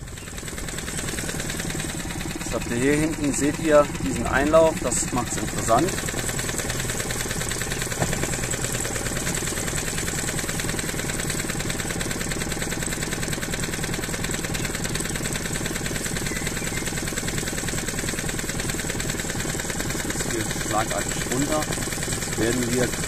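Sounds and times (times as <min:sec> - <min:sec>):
small boat motor running: 0:00.0 - 0:23.0.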